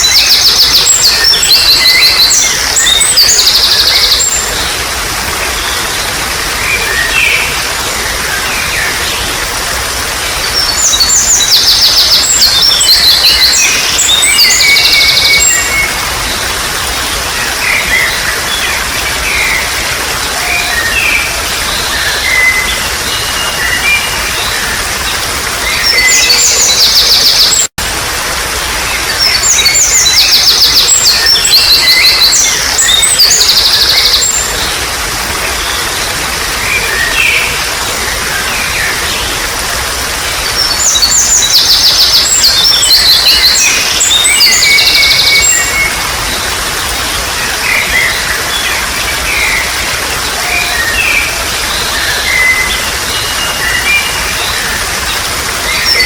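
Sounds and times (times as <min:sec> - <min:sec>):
trickle of running water: 0:00.0 - 0:56.0.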